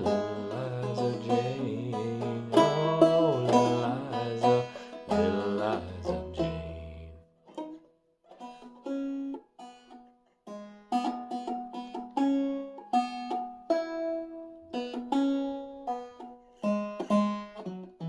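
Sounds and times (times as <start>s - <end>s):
banjo picking a melody: 0.0s - 18.0s.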